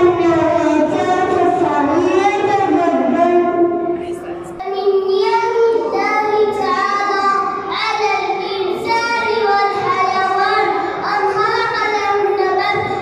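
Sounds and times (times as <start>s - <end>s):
child singing into microphone: 0.0s - 3.9s, 4.6s - 13.0s.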